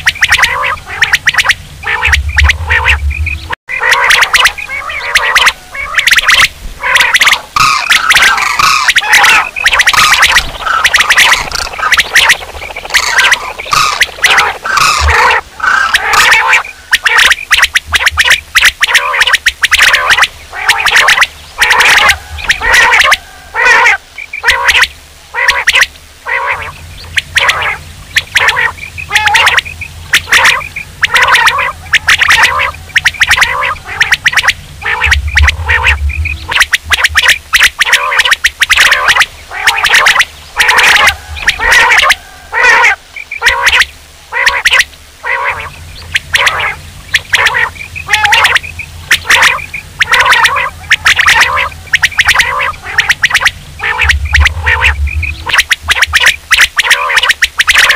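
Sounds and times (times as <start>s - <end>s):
quail calling: 0.0s - 57.9s.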